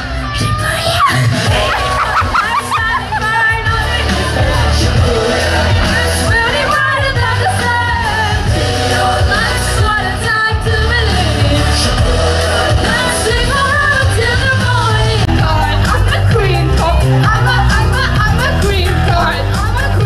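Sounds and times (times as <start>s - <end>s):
heavy bass beat: 0.0s - 20.0s
pop backing track: 0.0s - 20.0s
people singing into microphones: 0.3s - 20.0s.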